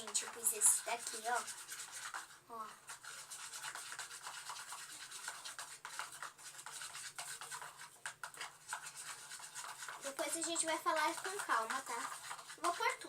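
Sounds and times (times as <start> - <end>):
utensil scraping stirring slime: 0.0 - 13.0.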